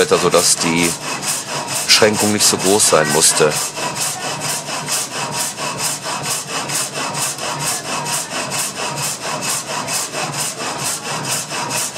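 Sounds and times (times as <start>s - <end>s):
saw blade rasping through wood: 0.0s - 11.9s.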